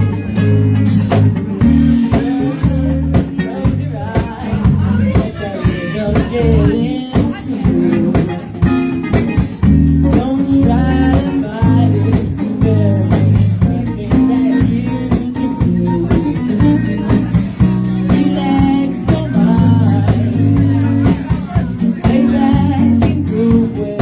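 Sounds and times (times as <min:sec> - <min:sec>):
bass guitar: 0:00.0 - 0:24.0
drum kit beat: 0:00.0 - 0:24.0
electric guitar: 0:00.0 - 0:24.0
person singing: 0:00.0 - 0:24.0.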